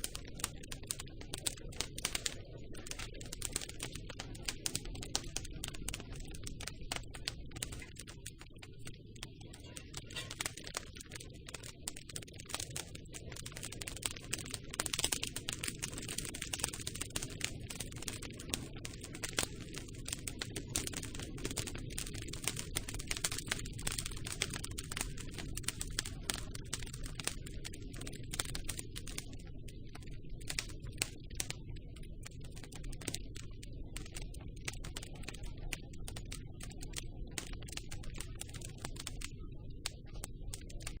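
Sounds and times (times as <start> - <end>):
campfire crackling and popping: 0.0 - 41.0
low rumble of burning wood: 0.0 - 41.0.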